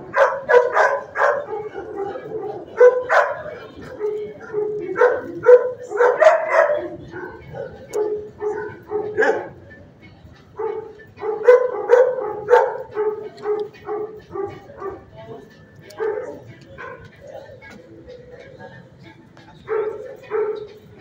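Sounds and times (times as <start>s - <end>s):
dogs barking: 0.0s - 9.8s, 10.5s - 21.0s.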